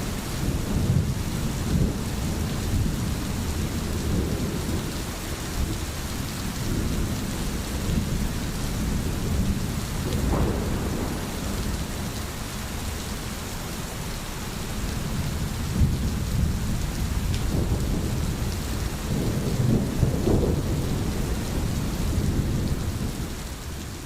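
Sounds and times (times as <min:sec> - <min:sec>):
low rolling thunder: 0:00.0 - 0:24.0
steady rain falling: 0:00.0 - 0:24.0.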